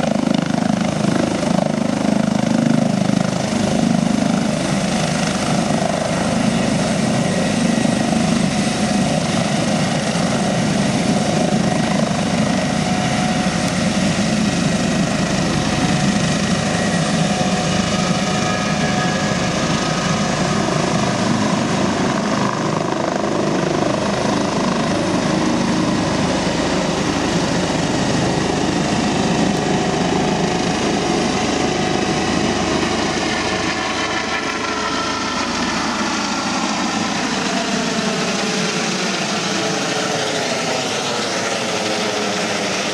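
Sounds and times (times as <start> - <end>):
helicopter rotor and turbine whine: 0.0 - 42.9.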